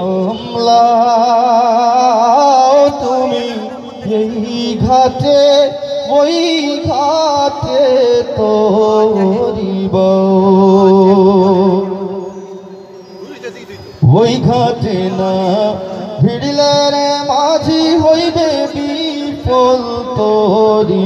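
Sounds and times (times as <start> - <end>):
man singing: 0.0 - 12.2, 14.0 - 21.0.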